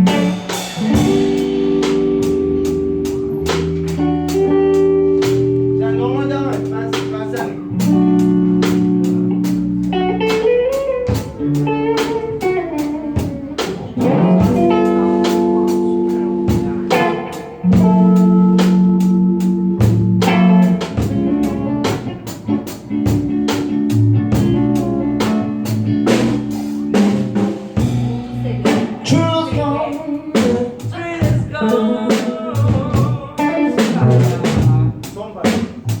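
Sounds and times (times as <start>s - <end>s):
bass guitar: 0.0s - 36.0s
drum kit steady beat: 0.0s - 36.0s
guitar playing bent notes: 0.0s - 36.0s.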